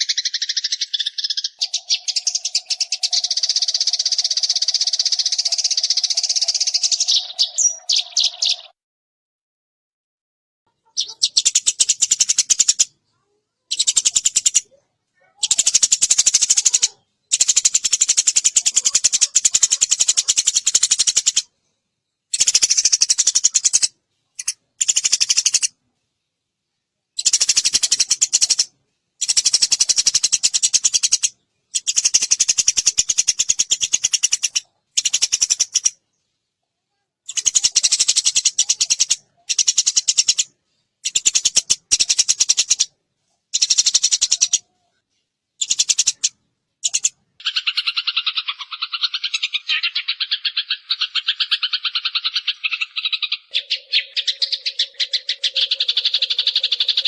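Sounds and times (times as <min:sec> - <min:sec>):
sparrow chirping: 0:00.0 - 0:08.8, 0:10.7 - 0:36.6, 0:37.3 - 0:57.0.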